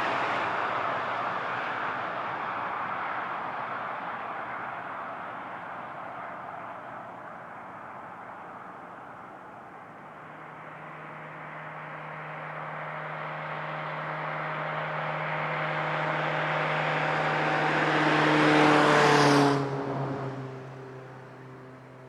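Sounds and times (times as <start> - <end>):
vehicle passing on highway: 0.0 - 22.0.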